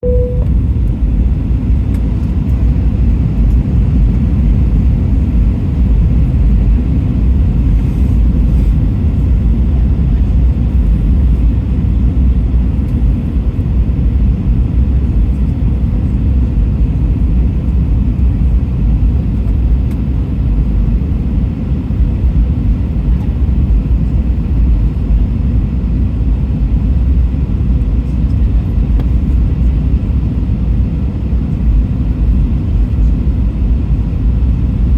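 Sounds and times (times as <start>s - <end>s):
airliner cabin jet engine rumble: 0.0s - 34.9s.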